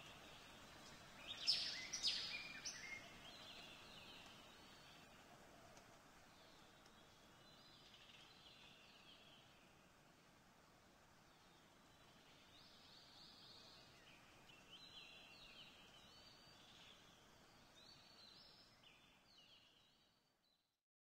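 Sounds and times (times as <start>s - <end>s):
faint birdsong chirping: 0.0s - 20.8s
soft outdoor background hiss: 0.0s - 20.8s.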